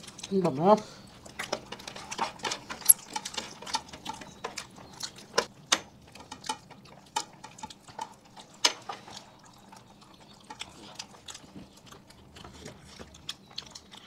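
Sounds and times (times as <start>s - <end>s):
wet chewing sounds: 1.0s - 14.0s.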